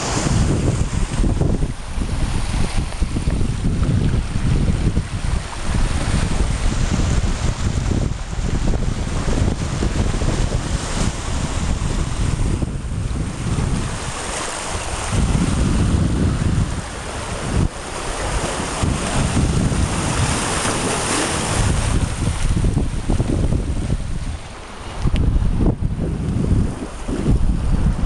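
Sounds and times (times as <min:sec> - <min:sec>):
surf breaking on rocks: 0:00.0 - 0:28.0
wind buffeting microphone: 0:00.0 - 0:28.0.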